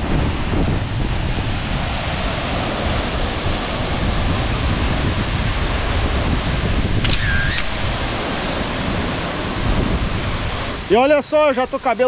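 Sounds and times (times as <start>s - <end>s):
wind buffeting microphone: 0.0s - 11.1s
waterfall rushing: 0.0s - 12.0s.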